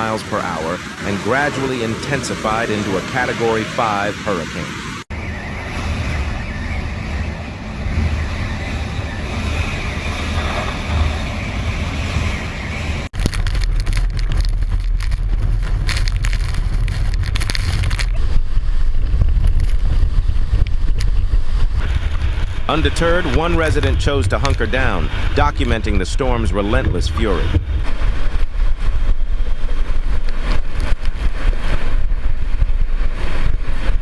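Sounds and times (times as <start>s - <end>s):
wind blowing across microphone: 4.9s - 34.0s.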